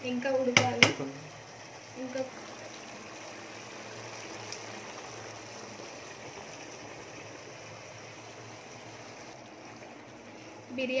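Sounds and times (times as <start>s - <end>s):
water boiling hard in pot: 0.0s - 11.0s.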